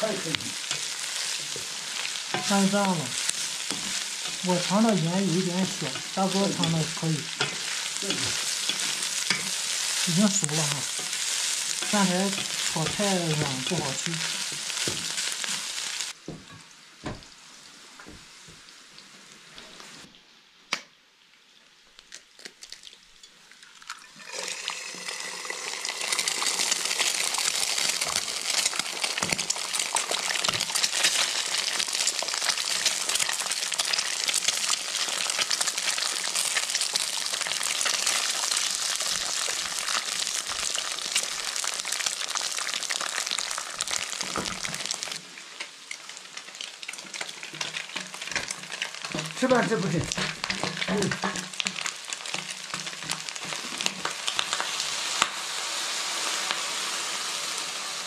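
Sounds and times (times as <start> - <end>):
eggs sizzling in hot oil: 0.0 - 20.1, 21.9 - 58.0
stir-fry sizzling in a wok: 0.0 - 20.1, 24.1 - 58.0.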